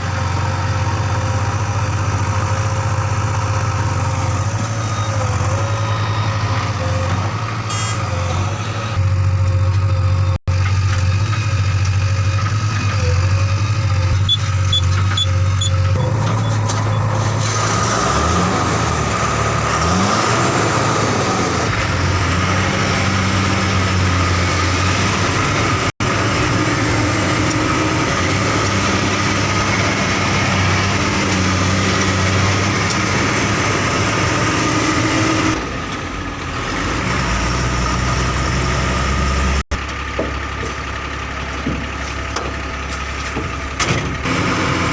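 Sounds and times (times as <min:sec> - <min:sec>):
diesel engine revving: 0:00.0 - 0:44.9
diesel engines running: 0:00.0 - 0:44.9.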